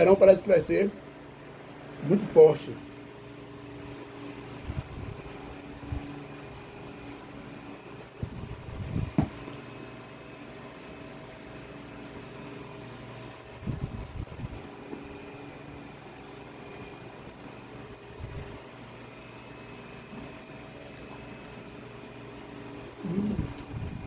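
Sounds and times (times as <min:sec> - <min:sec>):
steady humming background: 0:00.0 - 0:24.0.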